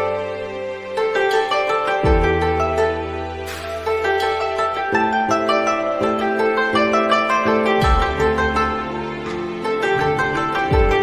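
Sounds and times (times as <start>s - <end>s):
plucked string notes: 0.0s - 11.0s.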